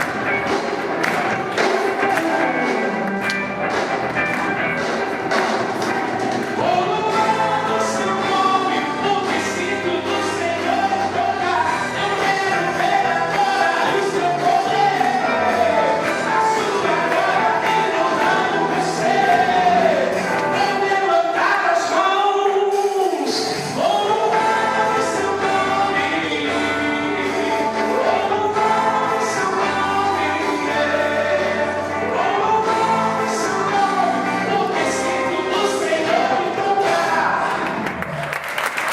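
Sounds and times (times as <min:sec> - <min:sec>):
full band playing: 0:00.0 - 0:38.9
choir singing worship song: 0:05.6 - 0:22.2, 0:23.1 - 0:37.8.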